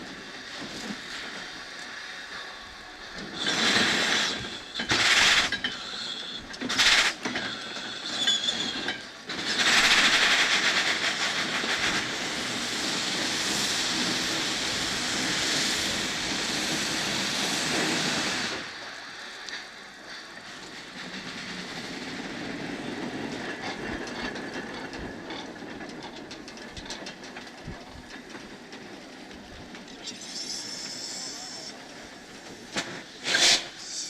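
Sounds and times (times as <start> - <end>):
steam bursts: 0.0 - 25.7, 29.6 - 34.0
steady steam hiss: 0.0 - 34.0.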